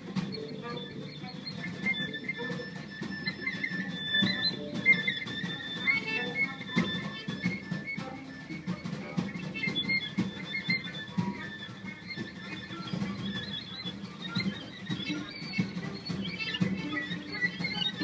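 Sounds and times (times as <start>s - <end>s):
plucked notes: 0.0s - 18.0s
sustained high string tones: 0.0s - 18.0s.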